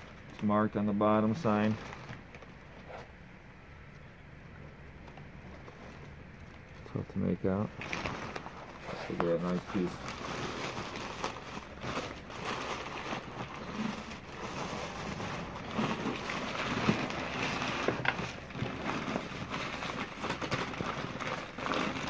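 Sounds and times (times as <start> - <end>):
packing paper crinkling: 0.0 - 3.1, 5.0 - 22.0.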